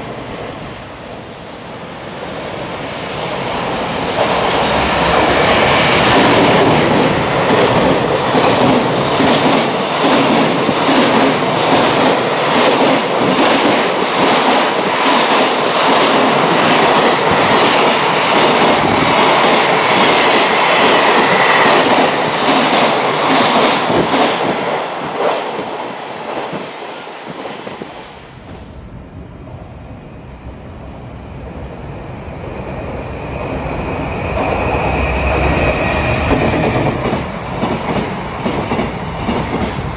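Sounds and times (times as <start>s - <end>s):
second train approaching: 0.0s - 39.9s.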